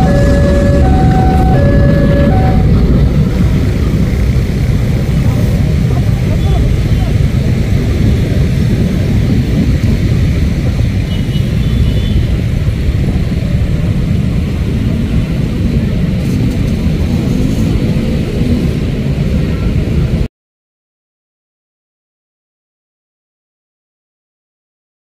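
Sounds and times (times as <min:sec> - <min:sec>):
low rumble of road traffic: 0:00.0 - 0:20.3.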